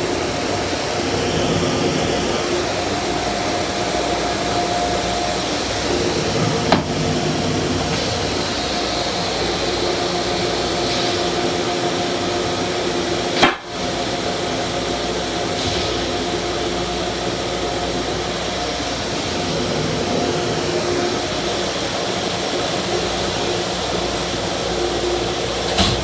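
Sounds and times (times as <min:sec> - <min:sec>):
steady whine: 0:00.0 - 0:23.7
electric railcar running: 0:00.0 - 0:26.0.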